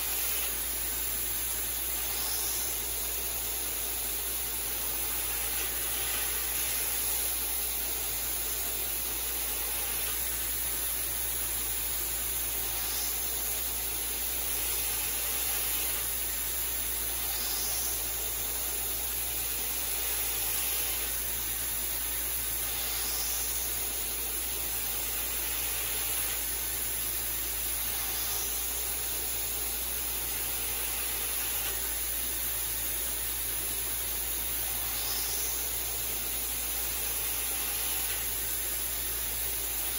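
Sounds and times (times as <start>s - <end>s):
mist sprayer hissing: 0.0s - 39.9s.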